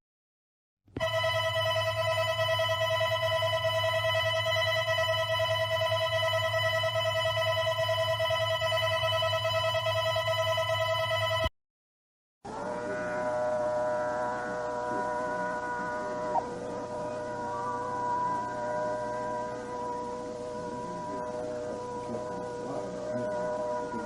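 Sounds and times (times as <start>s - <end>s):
fluttering electronic alarm tone: 1.0s - 11.5s, 12.5s - 24.0s
low hum: 1.0s - 11.5s, 12.5s - 24.0s.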